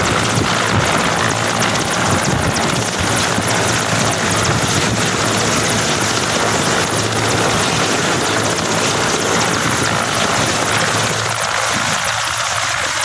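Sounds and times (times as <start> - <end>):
helicopter running: 0.0 - 13.0.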